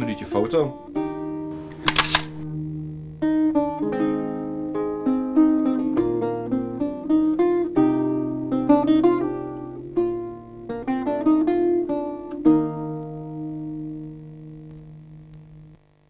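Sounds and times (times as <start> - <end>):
plucked string melody: 0.0 - 1.6, 2.4 - 14.8.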